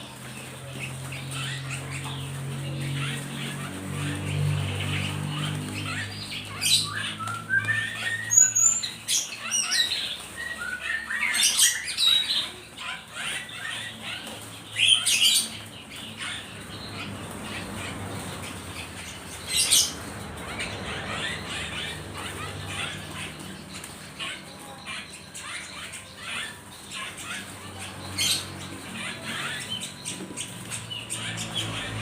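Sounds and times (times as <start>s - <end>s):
birds squawking: 0.0s - 32.0s
fluttering wingbeats: 0.0s - 32.0s
small birds chirping: 0.0s - 32.0s.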